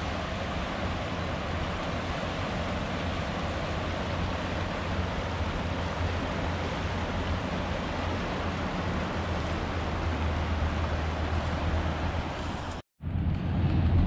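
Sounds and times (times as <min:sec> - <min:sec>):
river water rushing over rocks: 0:00.0 - 0:12.8.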